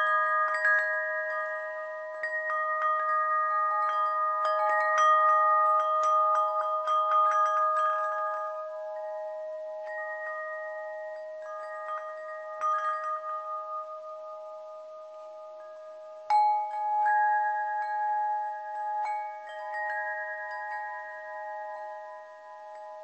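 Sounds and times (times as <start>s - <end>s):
metal chimes ringing: 0.0s - 23.0s
steady held tone: 0.0s - 23.0s.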